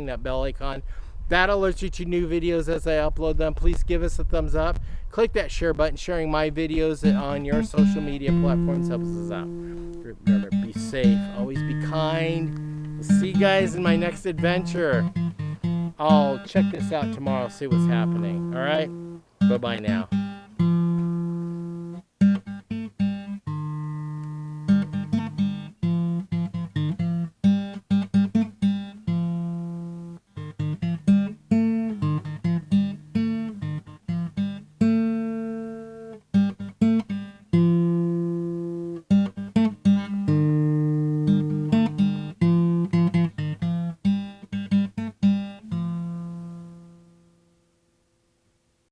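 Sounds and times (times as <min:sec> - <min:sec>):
acoustic guitar playing: 0:06.7 - 0:47.9.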